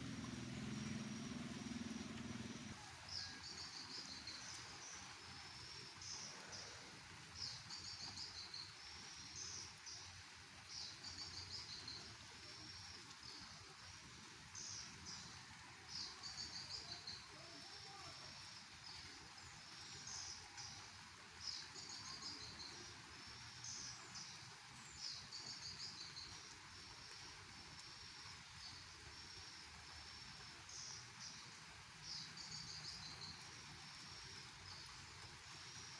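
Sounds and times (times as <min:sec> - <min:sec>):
faint rain hiss: 0:00.0 - 0:35.9.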